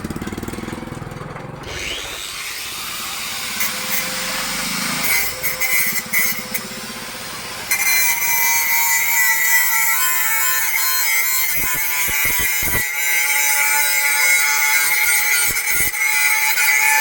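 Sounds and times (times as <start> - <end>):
power tool cutting wood: 0.1 - 17.0.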